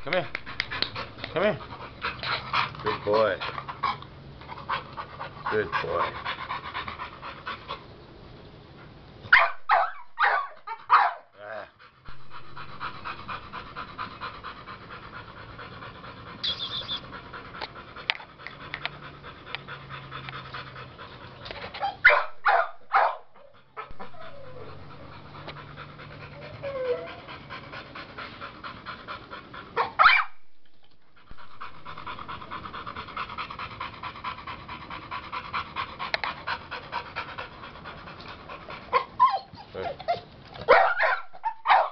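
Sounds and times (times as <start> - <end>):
dog panting: 0.0 - 8.0, 10.6 - 30.0, 30.9 - 41.9.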